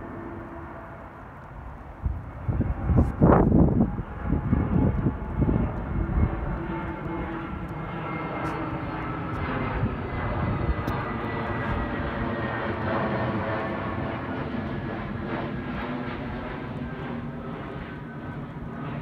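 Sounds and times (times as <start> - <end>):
engine drone: 0.0 - 19.0
low rumbling buffets: 0.0 - 19.0.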